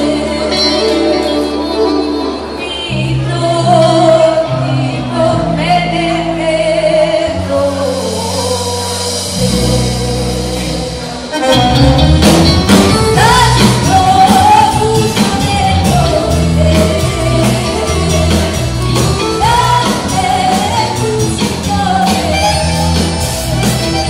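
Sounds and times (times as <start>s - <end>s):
woman singing: 0.0s - 11.5s, 12.7s - 24.0s
live band playing: 0.0s - 24.0s.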